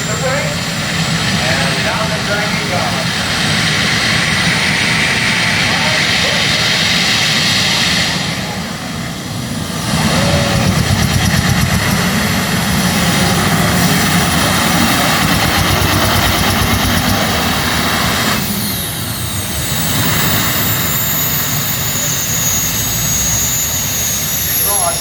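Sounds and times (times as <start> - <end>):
turbine whine spooling down: 0.0 - 25.0
turboshaft engines roaring: 0.0 - 25.0.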